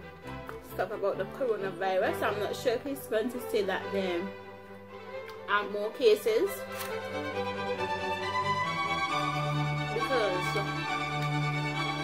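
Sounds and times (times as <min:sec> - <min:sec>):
bowed string music: 0:00.0 - 0:12.0.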